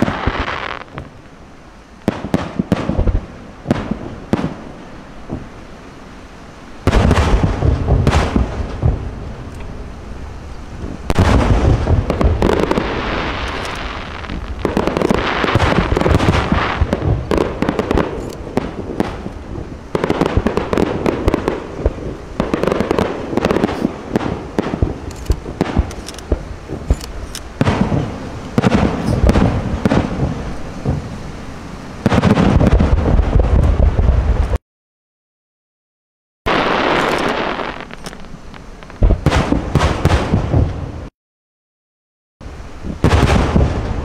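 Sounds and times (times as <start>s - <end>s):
fireworks bursting and crackling: 0.0s - 1.4s, 2.0s - 5.7s, 6.8s - 31.4s, 32.0s - 34.6s, 36.5s - 41.1s, 42.8s - 44.0s.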